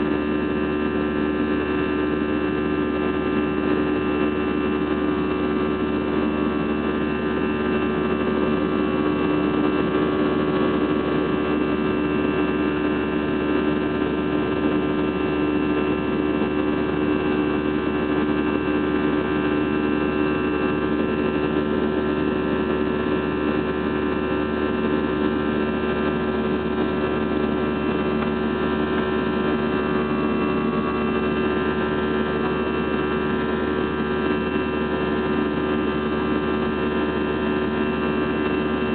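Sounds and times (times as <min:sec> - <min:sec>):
jet engine drone inside cabin: 0:00.0 - 0:38.9
steady humming tones: 0:04.5 - 0:38.9.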